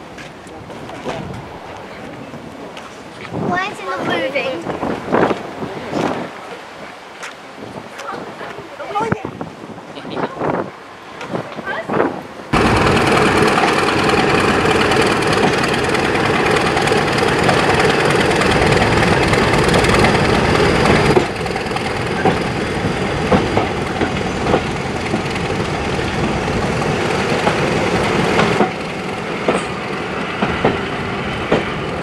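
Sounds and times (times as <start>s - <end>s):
diesel locomotive engine running: 0.0s - 6.4s, 12.5s - 32.0s.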